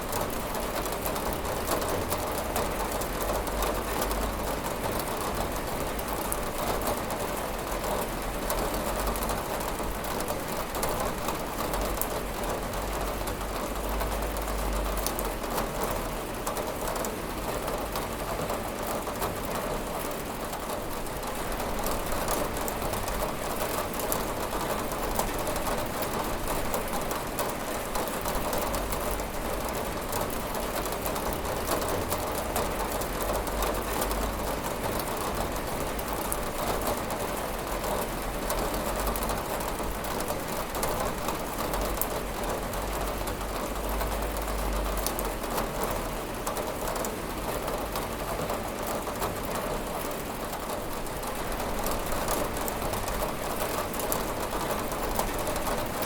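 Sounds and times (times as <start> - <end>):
rain tapping on a window: 0.0 - 56.0.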